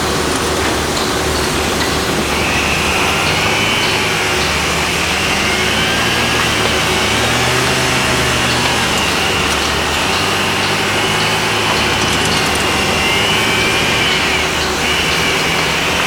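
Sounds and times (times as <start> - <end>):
high steady whine: 0.0 - 16.0
low engine drone: 0.0 - 16.0.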